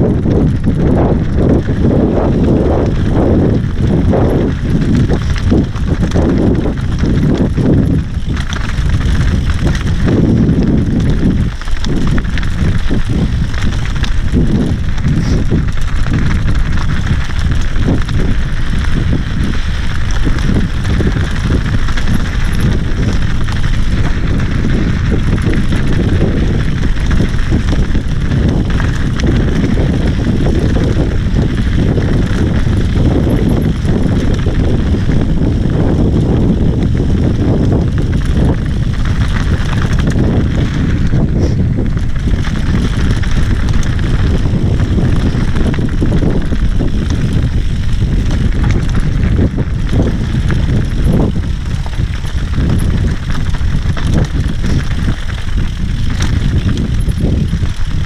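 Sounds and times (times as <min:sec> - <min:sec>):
bike knocks and rattles: 0:00.0 - 0:58.0
wind rush on microphone: 0:00.0 - 0:58.0
tyres crunching over gravel: 0:00.1 - 0:58.0.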